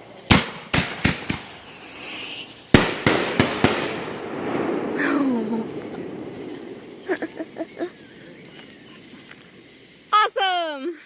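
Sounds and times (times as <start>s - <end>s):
fireworks sharp bangs: 0.0s - 10.1s
high whistling firework: 0.0s - 10.6s
fireworks crackling: 0.0s - 11.0s.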